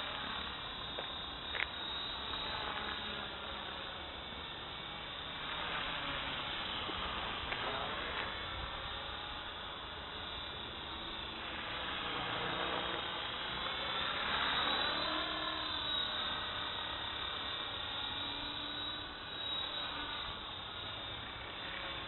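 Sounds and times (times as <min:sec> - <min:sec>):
rc helicopter whine: 0:00.0 - 0:22.0.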